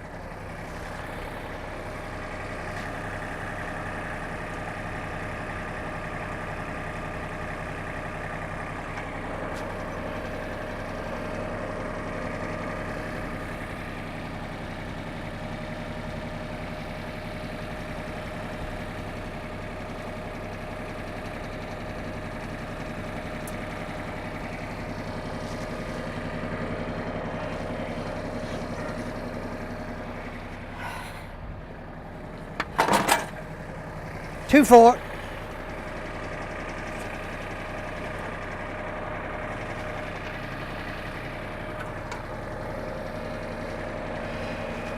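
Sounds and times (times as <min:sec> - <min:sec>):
diesel tractor engine idling: 0:00.0 - 0:44.9.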